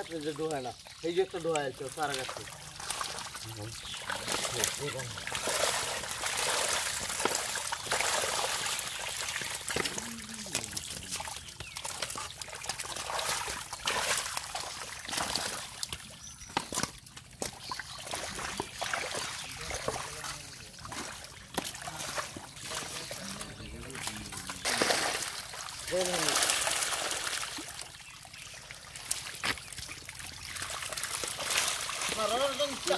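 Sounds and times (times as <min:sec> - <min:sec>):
muddy water splashing and sloshing: 0:00.0 - 0:32.9
water dribbling off bowls: 0:00.0 - 0:32.9.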